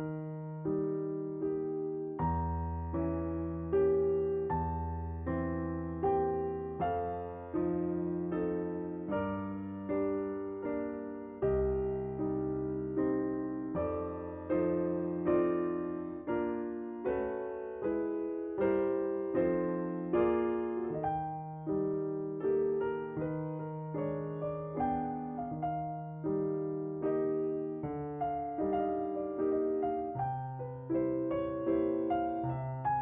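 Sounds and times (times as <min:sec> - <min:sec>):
gentle piano piece: 0:00.0 - 0:33.0.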